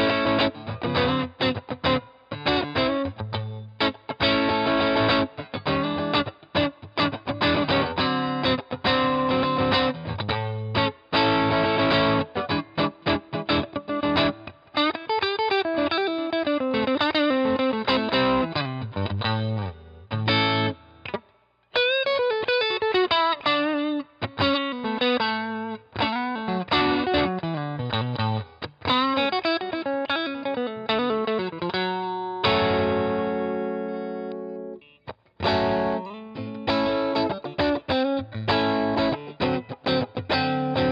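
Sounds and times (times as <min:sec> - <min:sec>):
overdriven electric guitar: 0:00.0 - 0:40.9.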